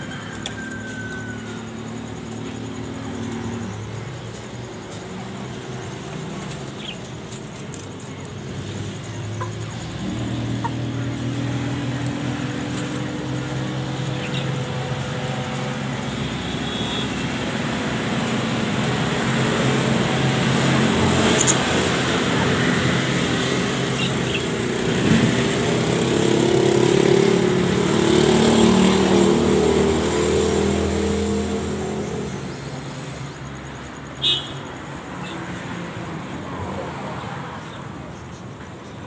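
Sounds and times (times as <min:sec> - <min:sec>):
passing vehicle engine: 0:00.0 - 0:38.5.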